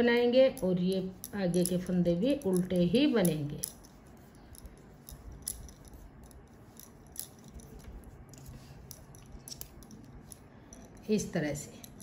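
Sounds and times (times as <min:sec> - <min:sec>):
knitting needles clicking: 0:00.1 - 0:11.1.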